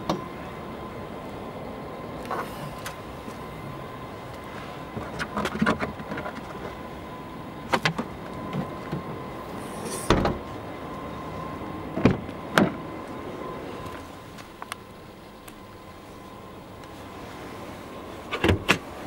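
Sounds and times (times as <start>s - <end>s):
faint steady tone: 0.0s - 19.0s.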